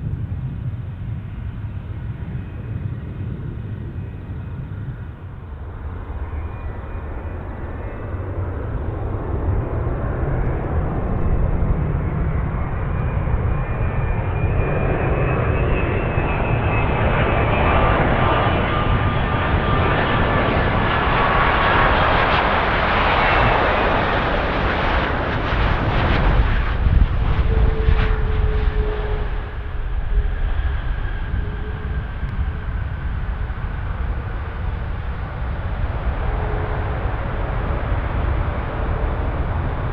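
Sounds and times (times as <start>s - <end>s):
jet airliner passing low: 0.0s - 39.9s.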